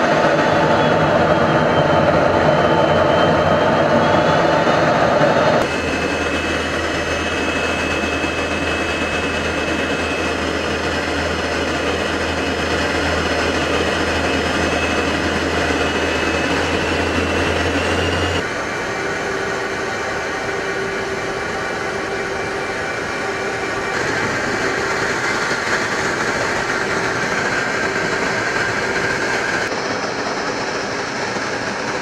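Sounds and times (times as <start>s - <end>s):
jet engine running: 0.0s - 32.0s.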